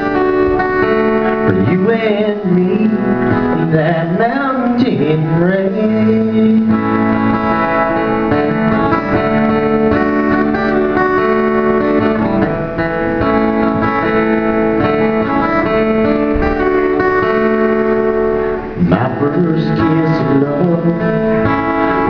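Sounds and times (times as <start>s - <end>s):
guitar-led ballad music: 0.0s - 22.0s.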